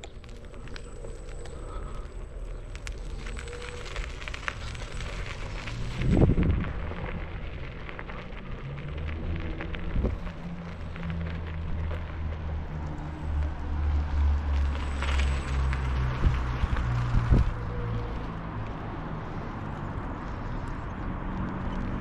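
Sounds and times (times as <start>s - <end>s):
low rumble: 0.0s - 22.0s
scooter wheels crunching gravel: 0.0s - 22.0s.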